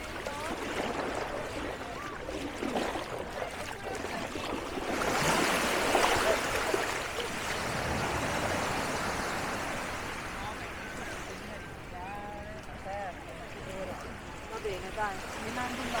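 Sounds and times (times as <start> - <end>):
faint voices of people: 0.0 - 7.5, 9.7 - 16.0
small waves washing on sand: 0.0 - 16.0.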